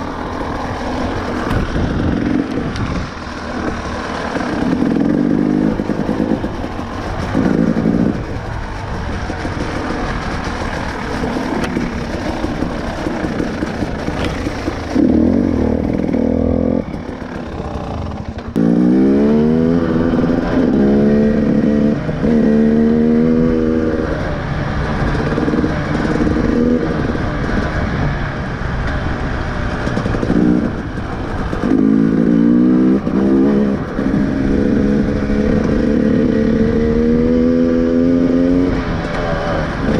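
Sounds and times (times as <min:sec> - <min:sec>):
two-stroke motorcycle engine: 0:00.0 - 0:39.9
wind: 0:00.0 - 0:39.9.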